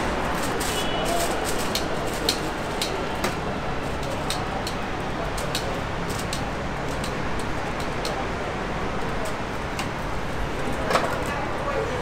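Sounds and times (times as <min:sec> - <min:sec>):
low din of crowd: 0:00.0 - 0:12.0.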